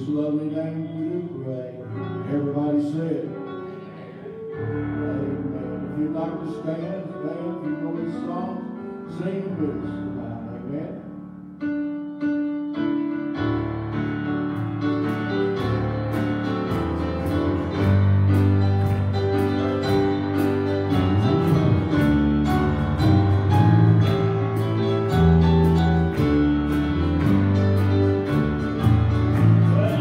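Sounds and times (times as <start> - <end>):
keyboard held notes: 0.0 - 30.0
live band playing: 0.7 - 8.6, 12.9 - 30.0.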